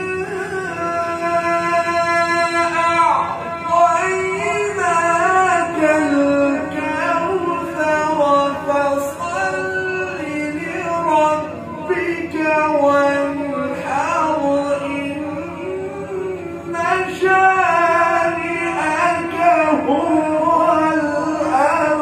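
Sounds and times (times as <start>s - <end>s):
man reciting in ornamented chant: 0.0s - 22.0s.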